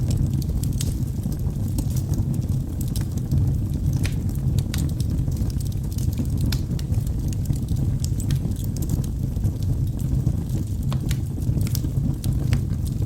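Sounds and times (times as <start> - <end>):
burning logs crackling and popping: 0.0 - 13.0
low roar of flames: 0.0 - 13.0.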